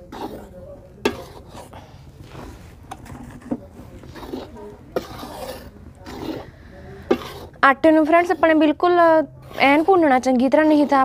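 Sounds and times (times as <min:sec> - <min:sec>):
spatula scraping flour in pan: 0:00.0 - 0:11.0.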